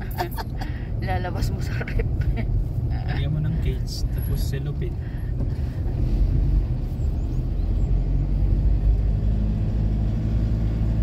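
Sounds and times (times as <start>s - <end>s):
vehicle road noise rumble: 0.0s - 11.0s.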